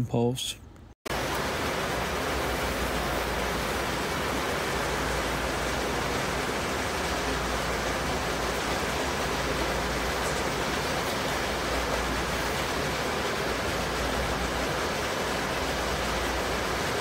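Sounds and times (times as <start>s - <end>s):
ventilation air rushing: 1.1s - 17.0s.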